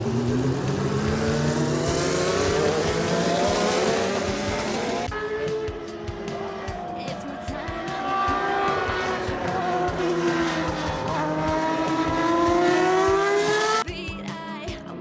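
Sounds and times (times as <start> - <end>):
racing engine accelerating: 0.0 - 13.9.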